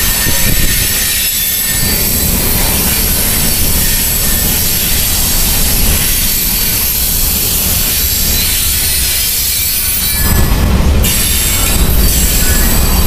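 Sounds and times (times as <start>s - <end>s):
high-pitched wheel squeal: 0.0s - 13.0s
steel wheels rumbling on rail: 0.0s - 13.0s.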